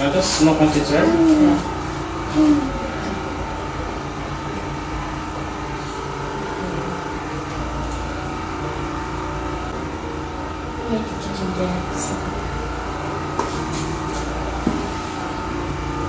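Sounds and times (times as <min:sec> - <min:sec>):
mechanical hum with low rumble: 0:00.0 - 0:16.0.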